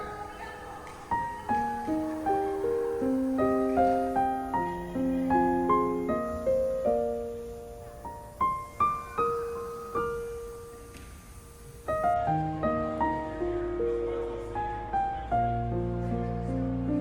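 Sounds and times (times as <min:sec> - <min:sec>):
slow piano melody: 0:01.0 - 0:17.0.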